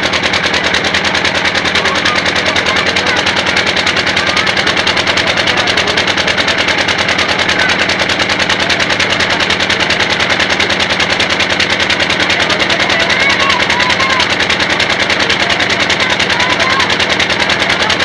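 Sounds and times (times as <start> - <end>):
boat engine chugging: 0.0 - 18.0.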